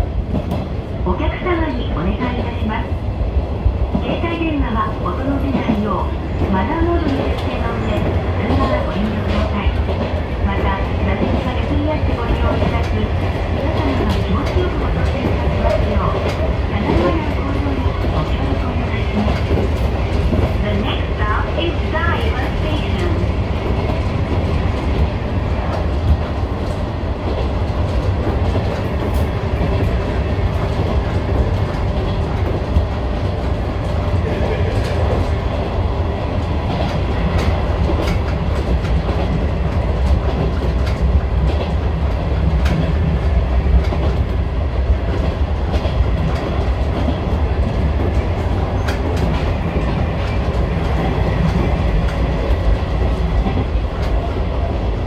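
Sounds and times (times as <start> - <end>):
train rumble: 0.0 - 55.0.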